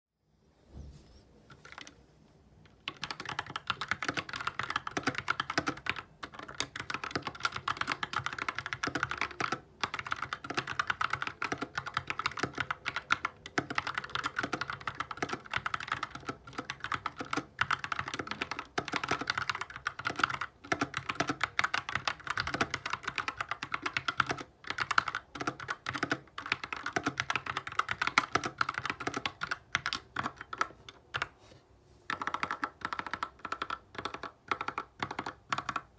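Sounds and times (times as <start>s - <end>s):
fast mechanical keyboard typing: 1.5s - 2.0s, 2.7s - 31.3s, 32.1s - 35.9s.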